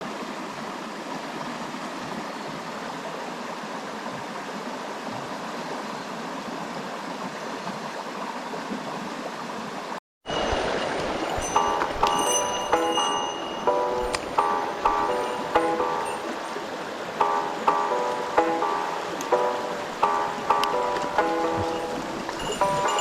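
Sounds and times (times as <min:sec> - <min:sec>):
mountain stream flowing: 0:00.0 - 0:23.0.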